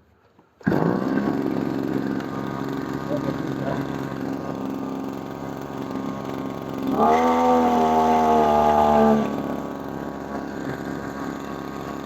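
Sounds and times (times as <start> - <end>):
small two-stroke engine idling: 0.6 - 12.0.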